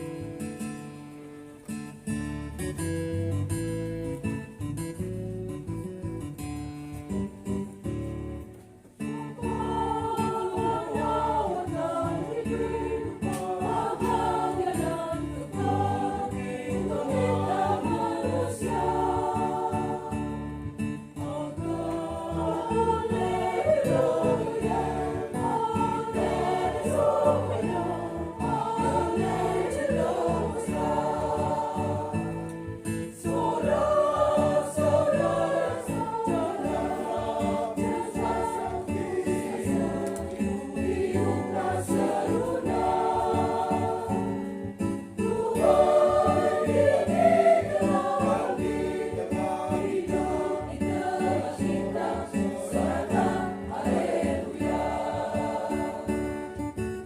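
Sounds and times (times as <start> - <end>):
guitar: 0.0 - 57.0
choir singing a hymn: 9.1 - 56.9.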